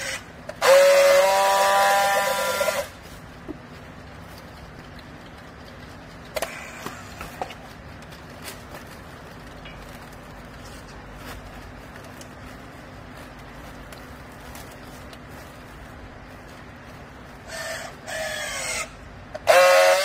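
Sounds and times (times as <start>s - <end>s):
motor and hydraulic pump humming: 0.0s - 20.0s.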